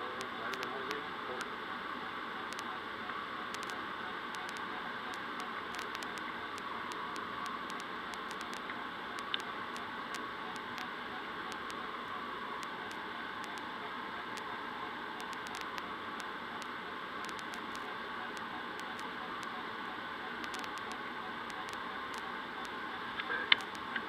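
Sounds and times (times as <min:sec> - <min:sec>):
faint clicks: 0:02.4 - 0:24.0.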